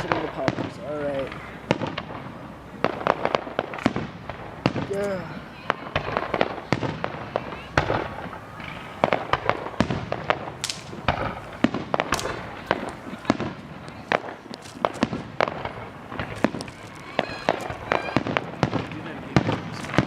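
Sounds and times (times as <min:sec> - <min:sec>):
fireworks bangs and pops: 0:00.0 - 0:20.0
fireworks crackle: 0:00.0 - 0:20.0.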